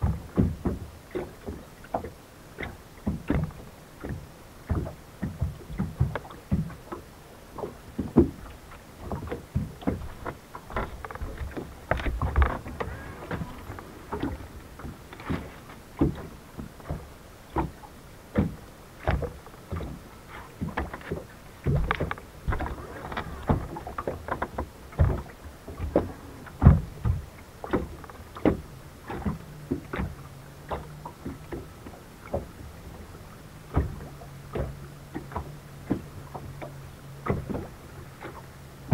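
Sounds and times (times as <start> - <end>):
low steady hum: 0.0 - 38.9
small waves slapping boat hull: 0.0 - 38.9.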